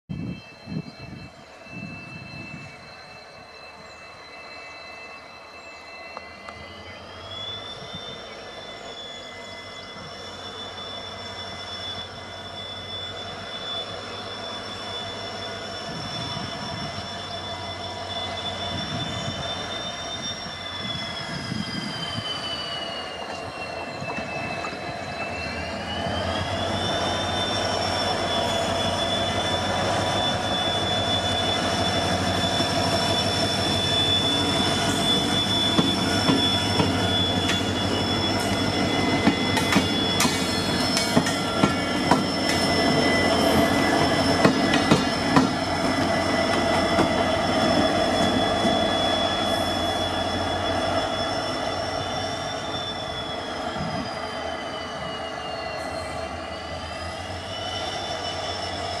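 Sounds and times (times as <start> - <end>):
locomotive engine whine and hum: 0.1 - 59.0.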